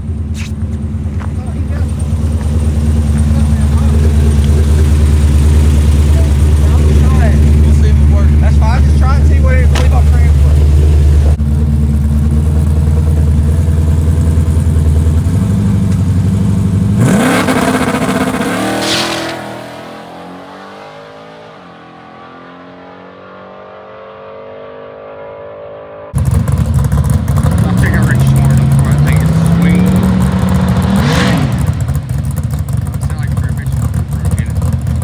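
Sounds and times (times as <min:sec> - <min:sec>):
drag racing engine revving: 0:00.0 - 0:35.0
loud engine: 0:00.0 - 0:35.0.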